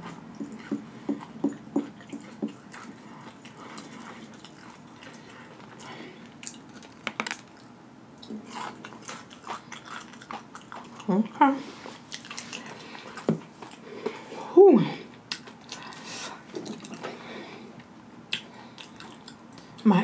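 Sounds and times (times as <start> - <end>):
wet chewing and lip smacking: 0.0 - 13.9, 15.2 - 17.2, 17.8 - 19.8.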